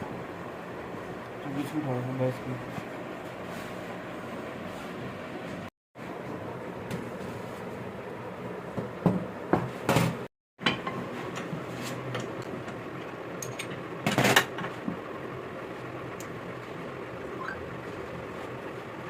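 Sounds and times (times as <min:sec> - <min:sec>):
workshop background noise: 0:00.0 - 0:19.0.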